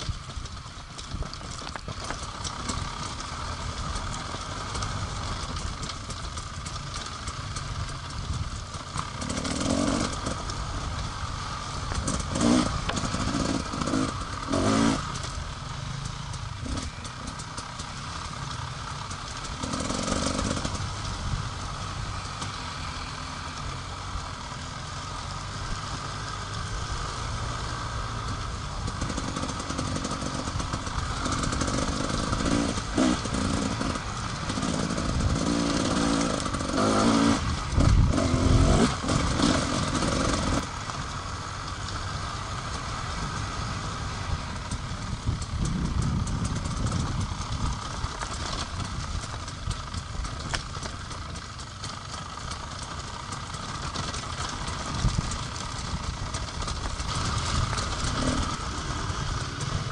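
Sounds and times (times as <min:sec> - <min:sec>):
motorcycle clatter: 0:00.0 - 0:59.9
motorcycle engine revving: 0:00.0 - 0:59.9.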